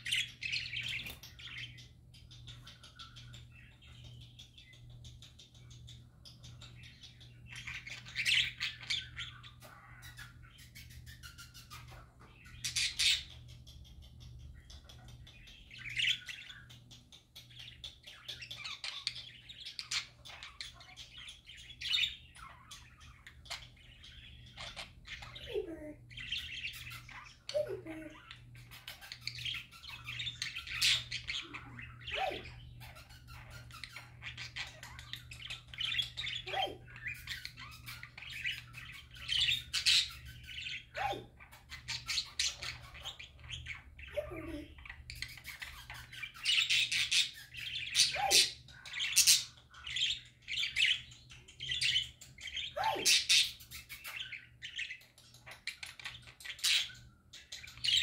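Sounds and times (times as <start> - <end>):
budgerigars chattering: 0.0 - 58.0.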